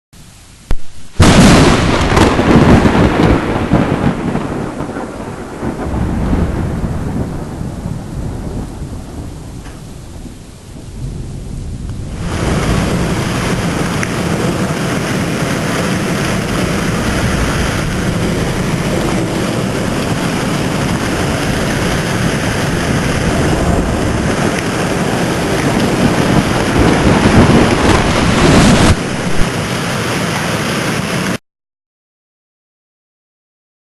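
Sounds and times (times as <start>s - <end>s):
heavy rain pouring: 0.2s - 31.4s
thunder rumbling: 0.6s - 31.4s.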